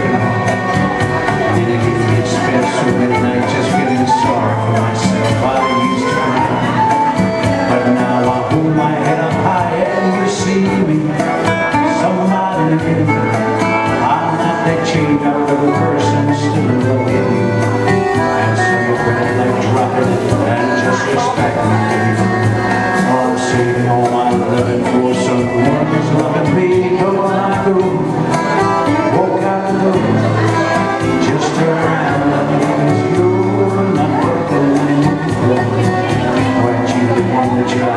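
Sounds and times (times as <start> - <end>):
classical guitar: 0.0 - 37.9
electronic keyboard with beat: 0.0 - 37.9
man singing into a microphone: 0.0 - 37.9.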